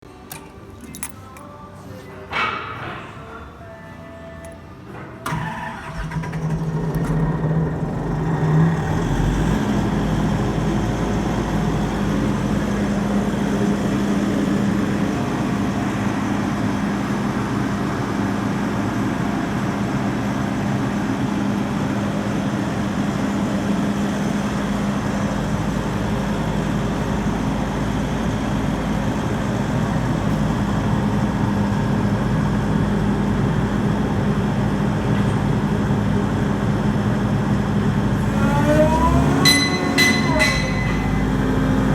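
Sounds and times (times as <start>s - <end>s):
air compressor running: 5.3s - 41.9s.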